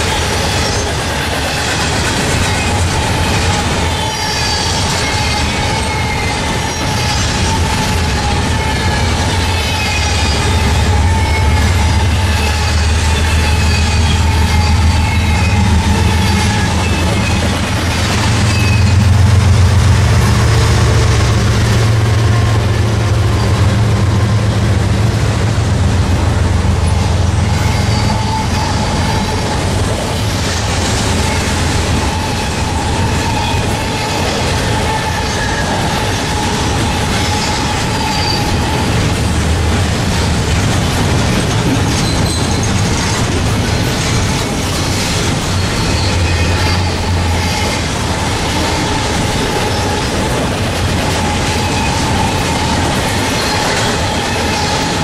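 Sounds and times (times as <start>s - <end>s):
high wheel squeals: 0.0s - 25.1s, 26.4s - 40.3s, 41.3s - 55.0s
freight train wheels rumbling: 0.0s - 55.0s.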